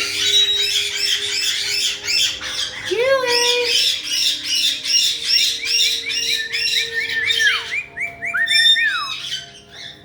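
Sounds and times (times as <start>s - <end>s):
parrot whistled notes: 0.0s - 10.0s
parrots chirping rapidly: 0.0s - 10.0s.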